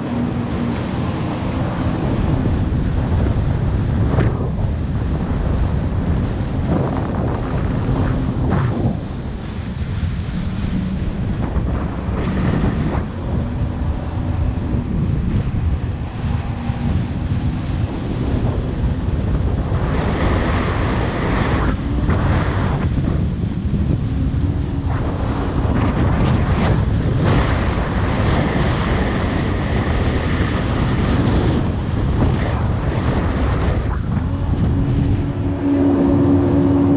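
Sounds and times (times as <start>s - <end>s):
jet ski engine: 0.0s - 36.9s
water rushing and spraying: 0.0s - 36.9s
wind buffeting microphone: 0.0s - 36.9s.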